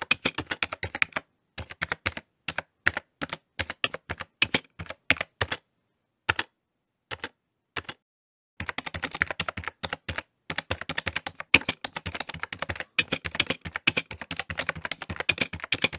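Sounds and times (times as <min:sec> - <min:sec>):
keyboard typing: 0:00.0 - 0:05.7, 0:06.3 - 0:08.0, 0:08.6 - 0:15.9.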